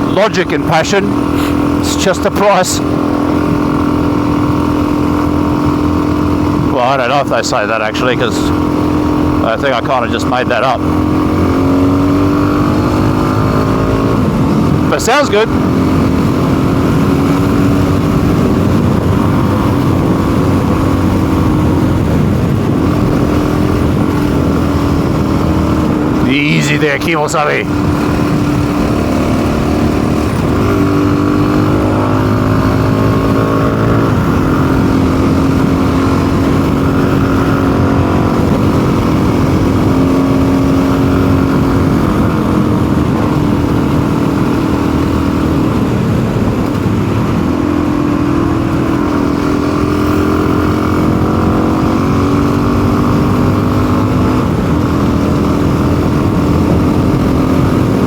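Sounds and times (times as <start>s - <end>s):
motorcycle engine running roughly: 0.0s - 58.0s.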